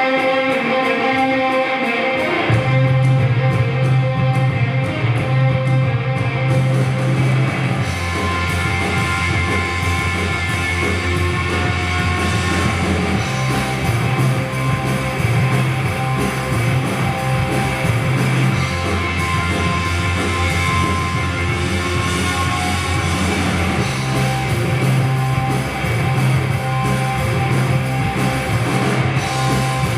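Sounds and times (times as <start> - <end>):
electric guitar: 0.0 - 29.9
bass line long low notes: 2.5 - 29.9.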